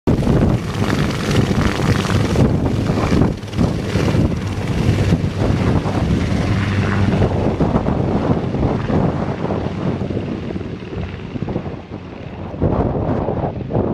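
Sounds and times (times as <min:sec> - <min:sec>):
helicopter rotor and engines: 0:00.1 - 0:13.9
rotor wash buffeting microphone: 0:00.1 - 0:13.9.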